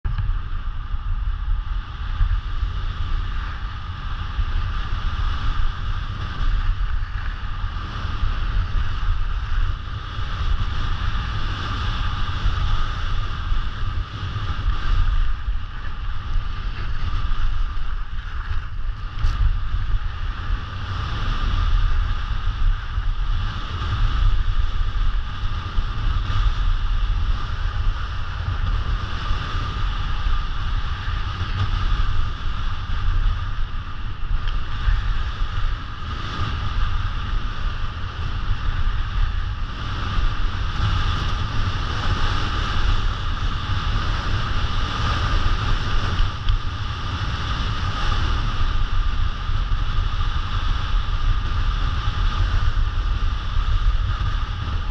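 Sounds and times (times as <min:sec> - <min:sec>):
wind buffeting microphone: 0:00.0 - 0:54.9
snowboard carving snow: 0:00.1 - 0:54.9.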